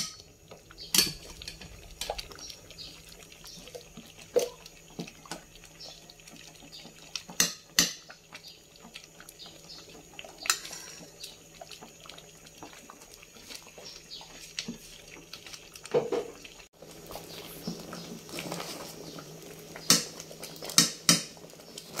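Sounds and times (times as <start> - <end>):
thick porridge bubbling: 0.0 - 22.0.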